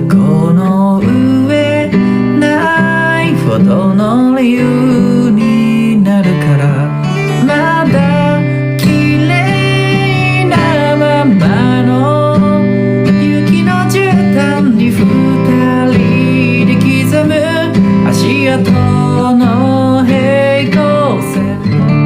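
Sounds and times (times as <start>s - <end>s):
acoustic guitar: 0.0s - 22.0s
person singing: 0.0s - 22.0s.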